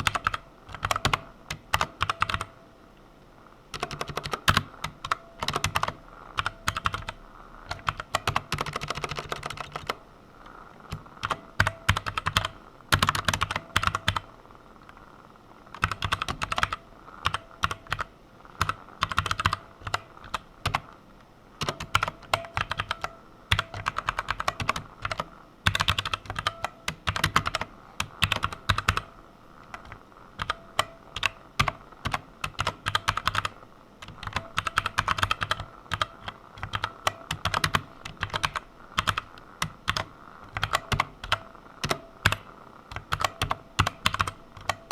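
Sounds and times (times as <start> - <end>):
computer keyboard typing: 0.0 - 2.5, 3.7 - 10.0, 10.9 - 14.3, 15.7 - 20.9, 21.6 - 44.9.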